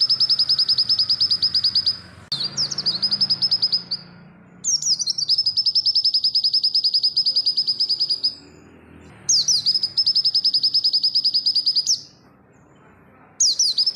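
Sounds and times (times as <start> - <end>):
bird singing fast trills: 0.0 - 12.2, 13.4 - 13.9.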